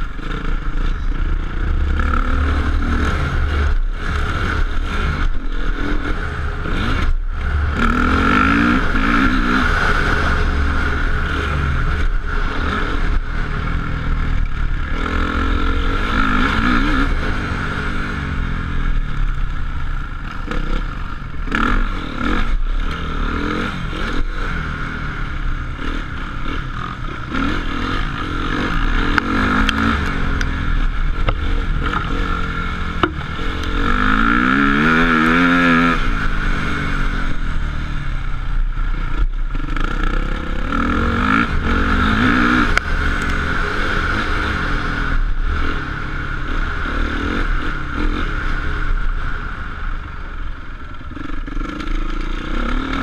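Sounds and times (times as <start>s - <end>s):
motocross bike engines revving: 0.0s - 53.0s
motorbike passing close: 0.0s - 53.0s.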